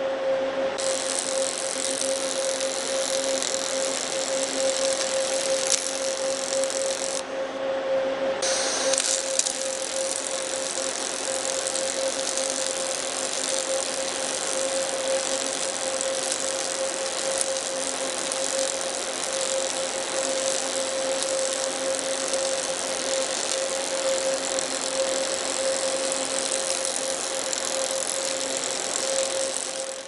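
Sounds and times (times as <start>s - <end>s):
mid-pitched hum: 0.0s - 30.0s
arc welding hiss: 0.8s - 7.2s, 8.4s - 30.0s.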